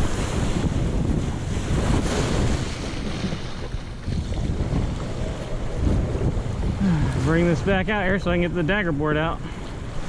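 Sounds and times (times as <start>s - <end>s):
small waves washing: 0.0s - 10.0s
wind buffeting microphone: 0.0s - 10.0s.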